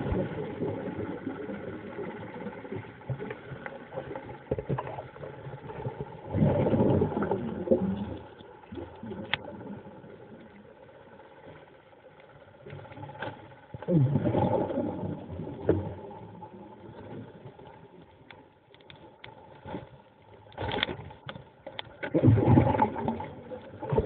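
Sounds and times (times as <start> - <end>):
muffled underwater sound: 0.0 - 24.0.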